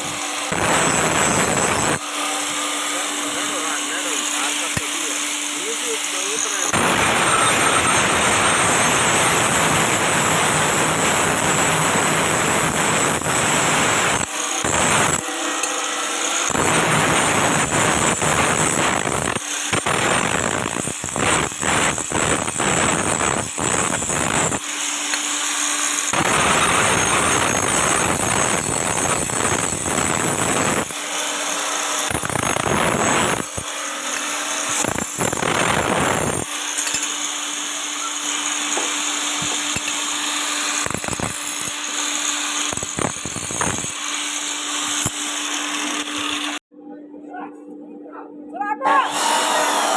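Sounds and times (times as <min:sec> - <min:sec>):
power tool running: 0:00.0 - 0:46.7, 0:48.9 - 0:49.9.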